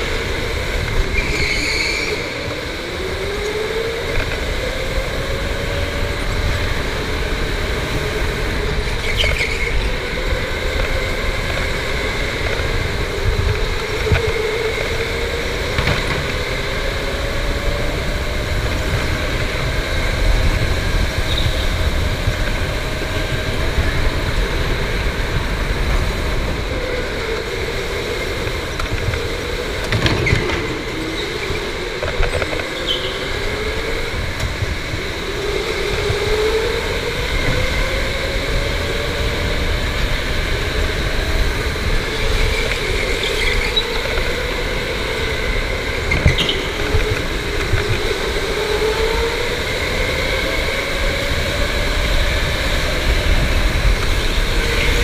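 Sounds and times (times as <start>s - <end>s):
kart rolling rumble: 0.0s - 55.0s.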